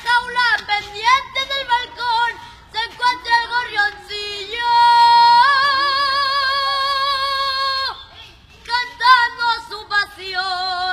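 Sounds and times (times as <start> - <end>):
boy singing a cappella: 0.0 - 10.9.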